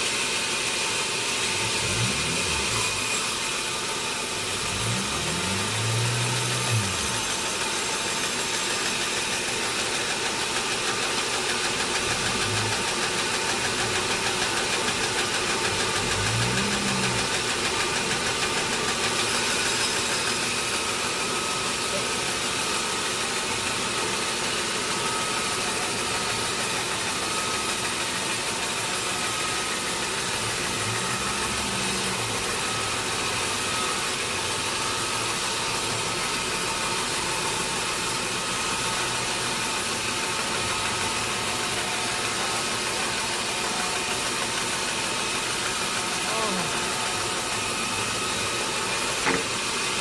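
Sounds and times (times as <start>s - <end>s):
sawmill machinery humming: 0.0s - 50.0s.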